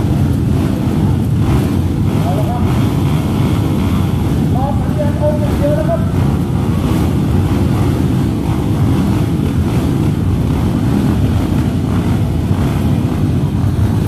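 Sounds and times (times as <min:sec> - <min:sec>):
dirt bike engines droning: 0:00.0 - 0:14.0.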